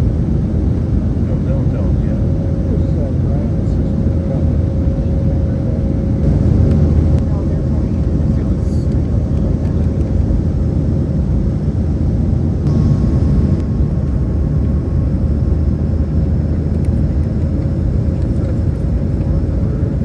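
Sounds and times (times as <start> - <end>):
airliner cabin rumble: 0.0 - 20.0
faint constant hum: 0.0 - 20.0.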